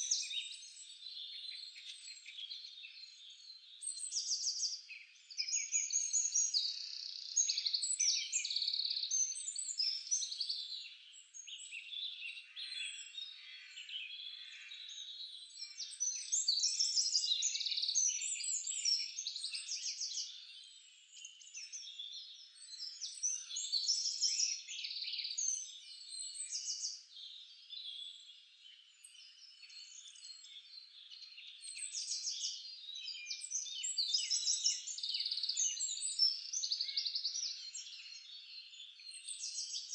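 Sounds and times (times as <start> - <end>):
birds chorus singing: 0.0 - 39.9.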